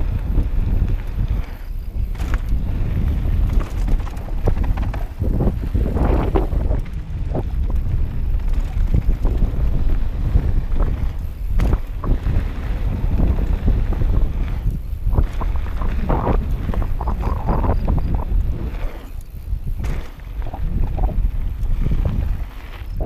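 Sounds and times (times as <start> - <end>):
bike parts rattling: 0.0 - 23.0
wind buffeting microphone: 0.0 - 23.0.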